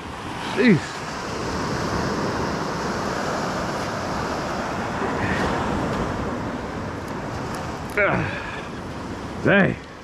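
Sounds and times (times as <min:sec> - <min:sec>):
surf on a beach: 0:00.0 - 0:10.0.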